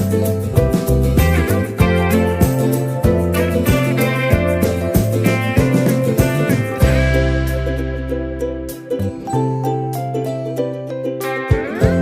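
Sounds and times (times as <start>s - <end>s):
upbeat guitar music with beat: 0.0s - 12.0s.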